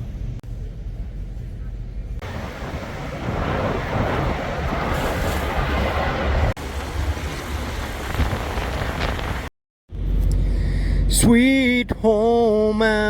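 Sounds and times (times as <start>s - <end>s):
wind and road noise: 0.0s - 12.2s
truck engine rumble: 0.0s - 13.0s.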